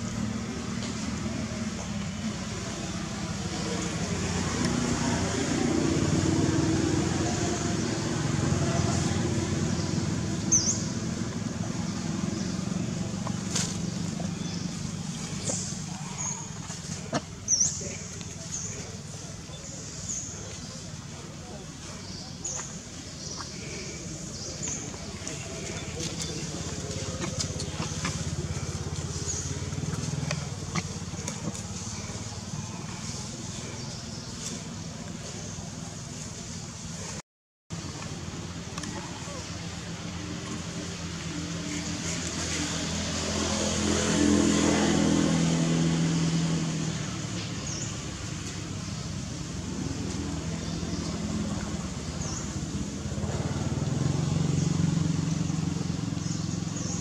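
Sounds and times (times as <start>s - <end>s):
motor vehicle engine running: 0.0s - 57.0s.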